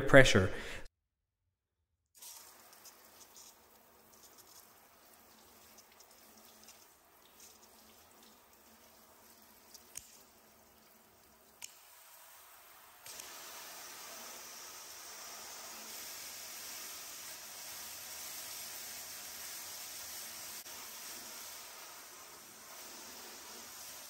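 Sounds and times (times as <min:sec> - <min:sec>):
water trickling from hose: 0:02.2 - 0:24.0.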